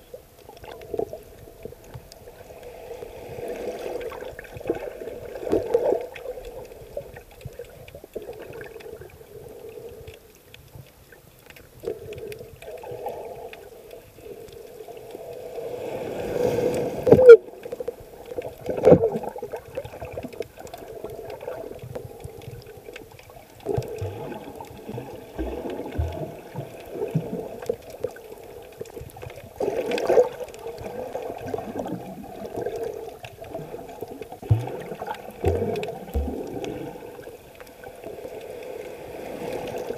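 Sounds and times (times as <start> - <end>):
muffled underwater water surges: 0.0 - 39.9.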